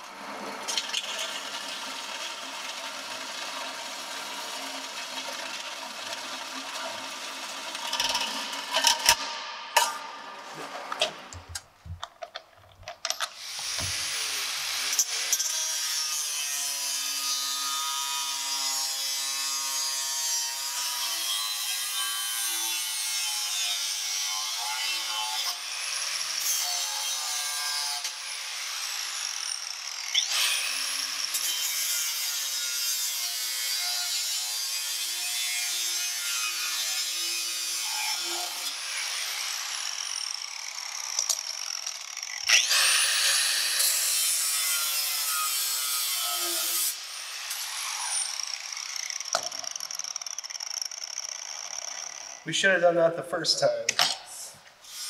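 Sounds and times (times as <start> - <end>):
angle grinder cutting metal: 0.0 - 10.4, 13.2 - 52.5.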